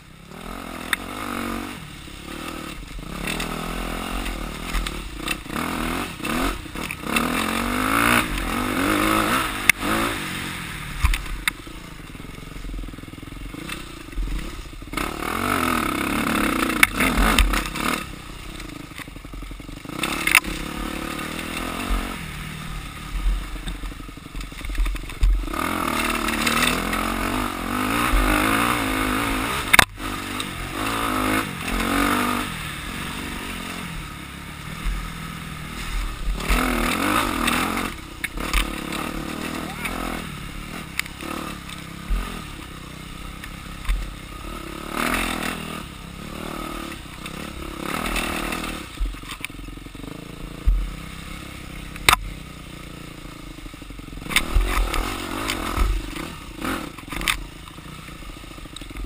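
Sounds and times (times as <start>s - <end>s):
motorcycle engine revving: 0.0s - 59.0s
motorcycle knocks and rattles: 10.8s - 46.2s, 46.8s - 59.0s.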